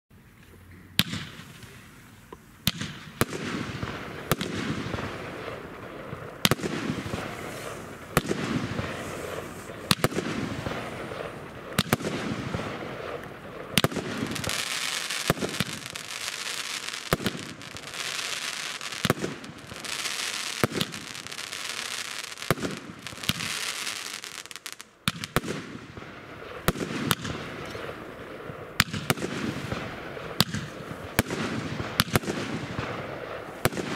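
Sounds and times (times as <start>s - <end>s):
fireworks bangs: 1.0s - 1.9s, 2.6s - 33.9s
fireworks hiss and crackle: 1.0s - 33.9s.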